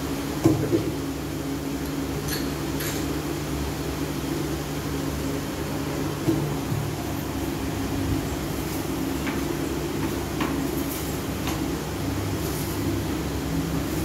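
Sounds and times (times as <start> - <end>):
machine hum with low tones: 0.0 - 14.0.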